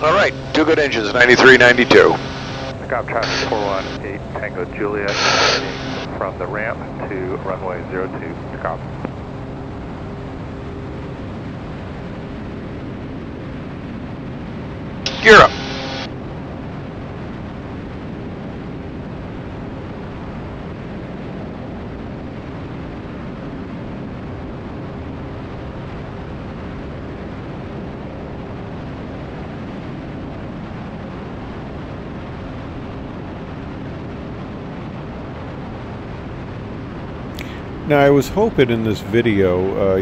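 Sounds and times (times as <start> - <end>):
propeller aircraft engines droning: 0.0 - 40.0.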